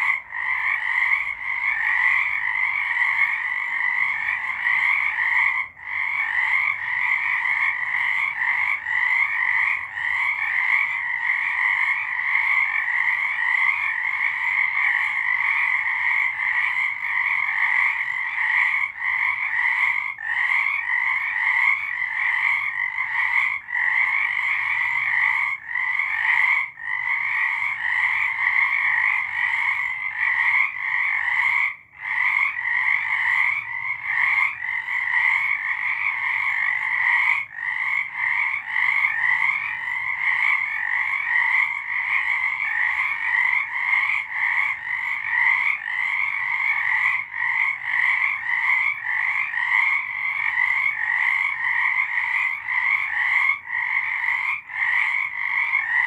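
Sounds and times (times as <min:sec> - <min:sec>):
frog chorus: 0:00.0 - 0:56.0.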